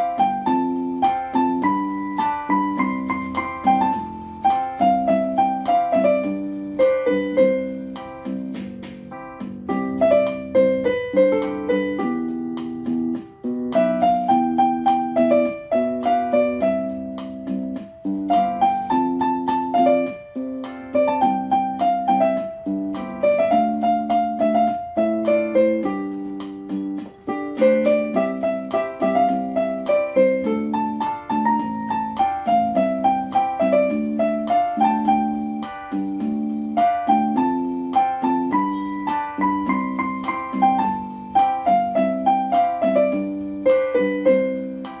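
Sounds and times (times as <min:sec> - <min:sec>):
electronic keyboard playing: 0:00.0 - 0:45.0.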